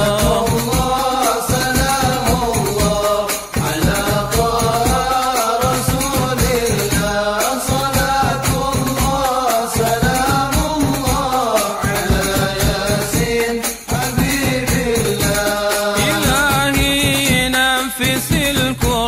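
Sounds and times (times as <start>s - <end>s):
hand percussion rhythm: 0.0s - 19.0s
person singing a melodic chant: 0.0s - 19.0s.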